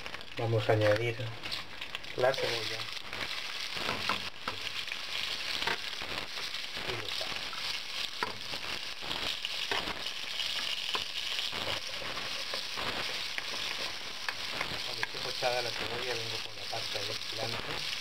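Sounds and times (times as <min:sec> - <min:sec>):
onion sizzling in frying pan: 0:00.0 - 0:18.0
wooden spoon stirring in pan: 0:01.1 - 0:18.0.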